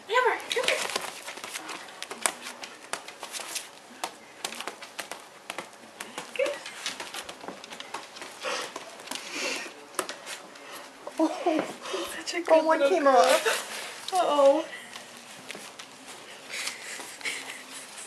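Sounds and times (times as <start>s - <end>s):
dog feet tapping on hardwood floor: 0.4s - 17.4s.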